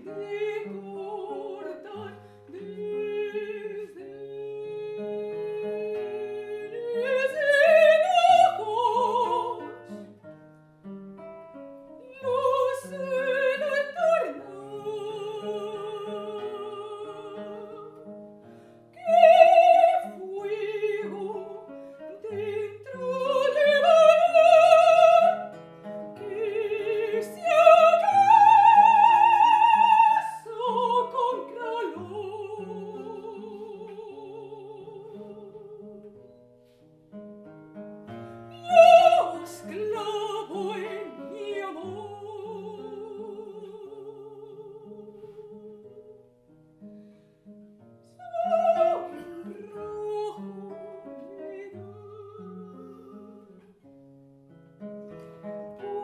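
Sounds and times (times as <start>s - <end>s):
operatic soprano singing: 0.0s - 10.1s, 12.0s - 18.2s, 18.9s - 36.1s, 38.5s - 46.0s, 48.2s - 53.8s, 55.7s - 56.0s
classical guitar plucked: 0.0s - 56.0s.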